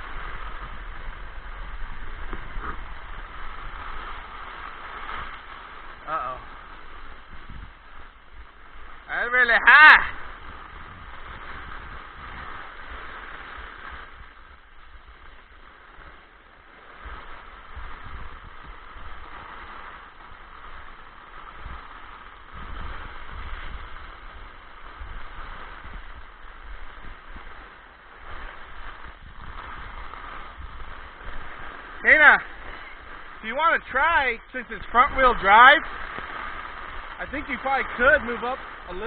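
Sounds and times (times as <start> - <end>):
storm hiss: 0.0 - 39.0
wind gusts on microphone: 0.0 - 39.0.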